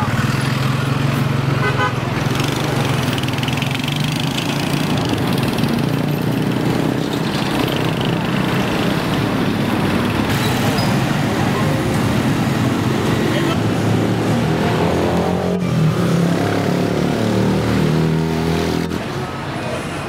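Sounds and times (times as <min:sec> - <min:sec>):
street traffic engines: 0:00.0 - 0:20.0.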